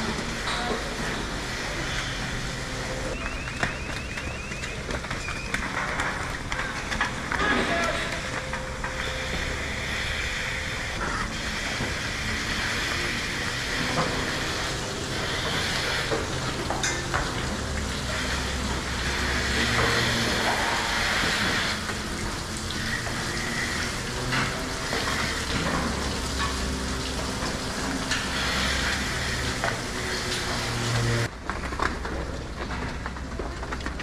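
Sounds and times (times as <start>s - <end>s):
milking machinery low hum: 0.0s - 34.0s.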